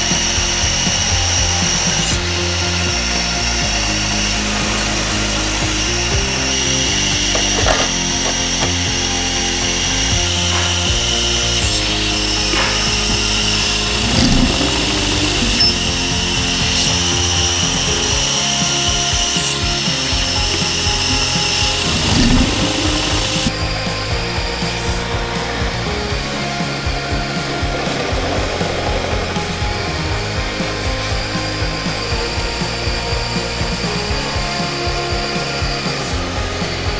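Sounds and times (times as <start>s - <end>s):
background music: 0.0s - 36.9s
drilling machine whine: 0.0s - 36.9s.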